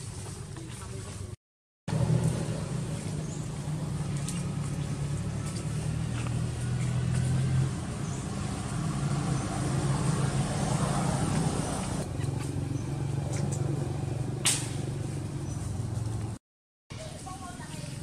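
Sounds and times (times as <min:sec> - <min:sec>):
motor engine humming: 0:00.1 - 0:16.4.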